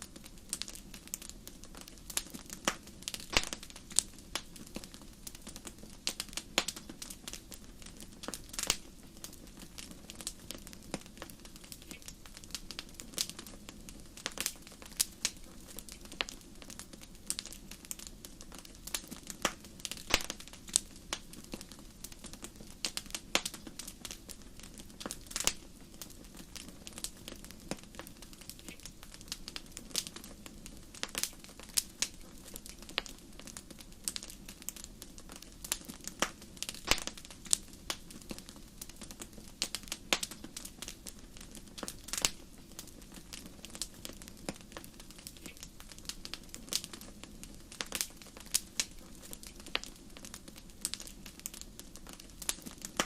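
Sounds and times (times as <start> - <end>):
fire crackling and popping: 0.0 - 53.0.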